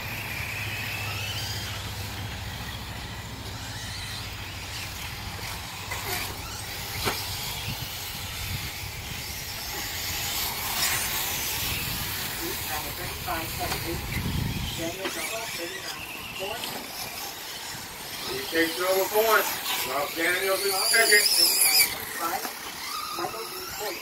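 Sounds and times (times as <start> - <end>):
electric motors whining: 0.0 - 24.0
tyre and track noise: 0.0 - 24.0.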